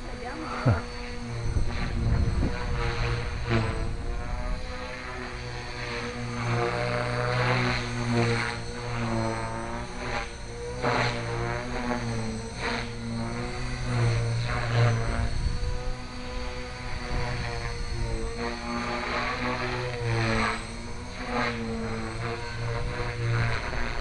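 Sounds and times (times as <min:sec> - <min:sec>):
rc helicopter rotor humming: 0:00.0 - 0:24.0
rushes of rotor noise: 0:00.0 - 0:24.0.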